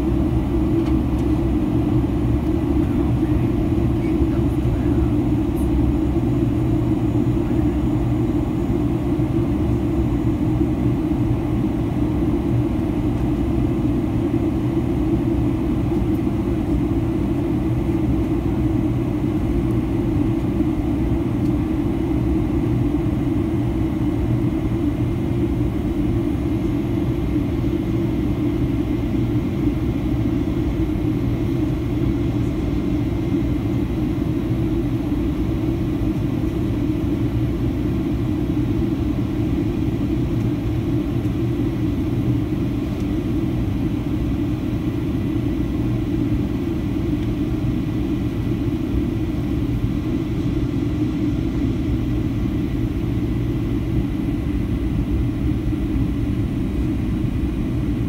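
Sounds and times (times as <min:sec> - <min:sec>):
faint steady whine: 0:00.0 - 0:58.0
jet engine and airflow rumble: 0:00.0 - 0:58.0.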